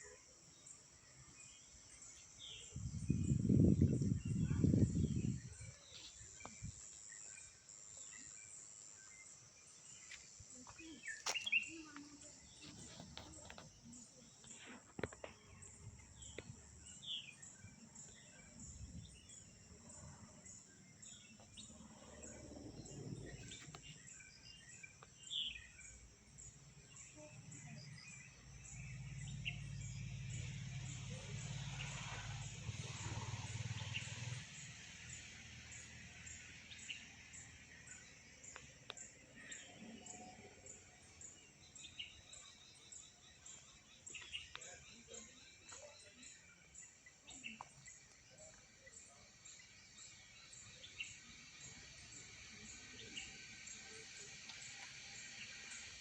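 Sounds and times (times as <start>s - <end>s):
bird chirps: 1.4s - 56.0s.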